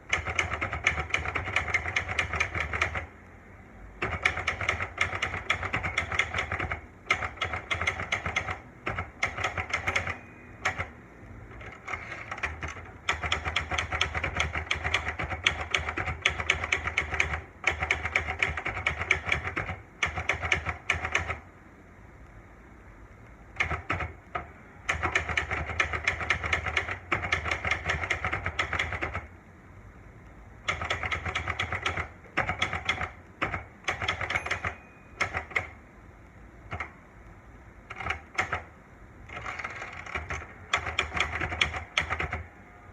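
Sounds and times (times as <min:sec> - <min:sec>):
typewriter keys clacking: 0:00.1 - 0:03.1, 0:04.0 - 0:21.4, 0:23.6 - 0:29.3, 0:30.7 - 0:35.8, 0:37.9 - 0:38.7, 0:39.3 - 0:42.5.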